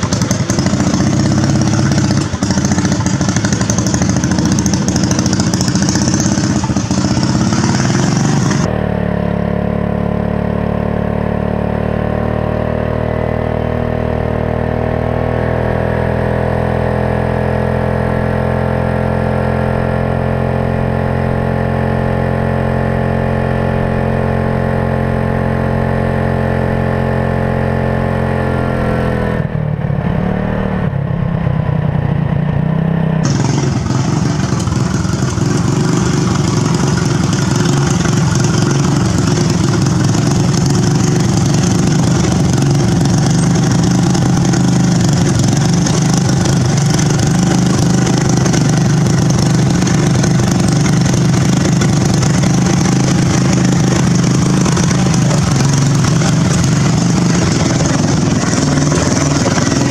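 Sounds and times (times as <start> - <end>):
lawn mower engine at full throttle: 0.0 - 59.9.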